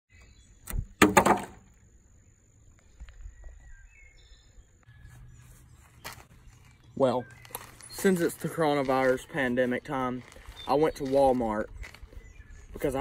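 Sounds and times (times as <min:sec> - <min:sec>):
faint high bird chirps: 0:02.1 - 0:13.0.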